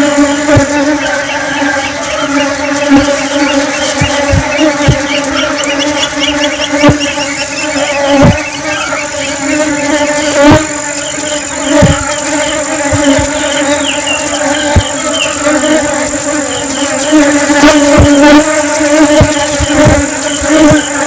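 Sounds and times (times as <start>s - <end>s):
honeybees buzzing: 0.0s - 21.0s
low thumps: 0.0s - 21.0s.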